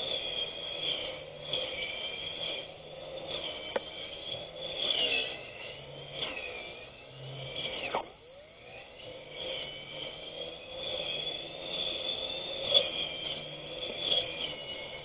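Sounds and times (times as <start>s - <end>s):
electric grass cutter motor whining: 0.0s - 15.0s.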